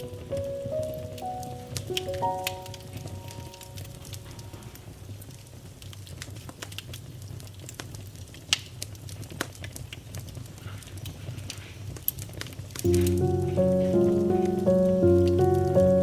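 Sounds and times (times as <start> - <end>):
bonfire crackling and popping: 0.1 - 16.0
low rumble of burning wood: 0.2 - 13.5.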